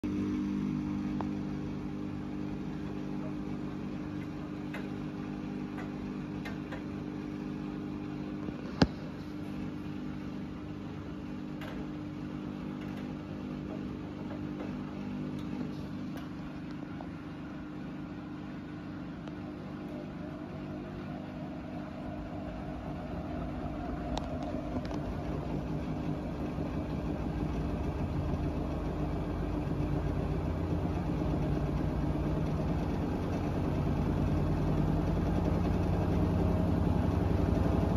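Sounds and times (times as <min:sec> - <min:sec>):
washing machine drum humming: 0:00.0 - 0:37.9.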